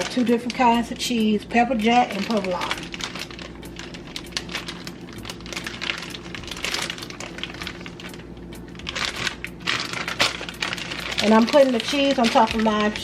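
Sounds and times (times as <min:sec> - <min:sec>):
crinkly handling noises: 0:00.0 - 0:13.0.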